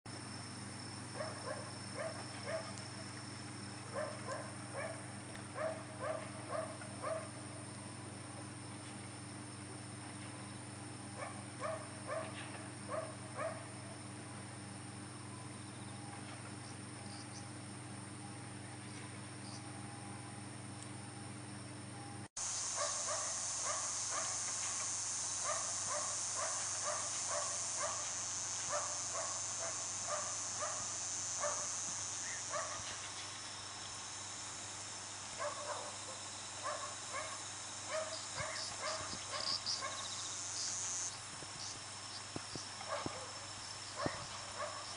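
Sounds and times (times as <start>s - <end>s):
insects chirring: 0.1s - 44.9s.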